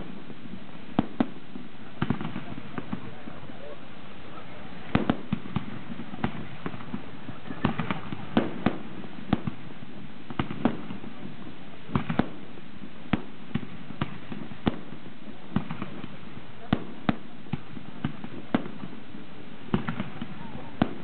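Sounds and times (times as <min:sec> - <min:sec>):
background rumble: 0:00.0 - 0:21.0
firework shells bursting: 0:00.0 - 0:21.0.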